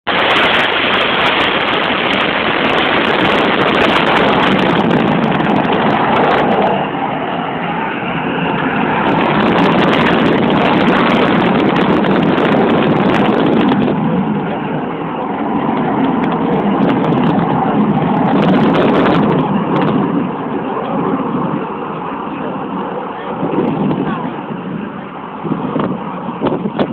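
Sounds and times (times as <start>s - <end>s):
aircraft engine roar: 0.0s - 26.9s.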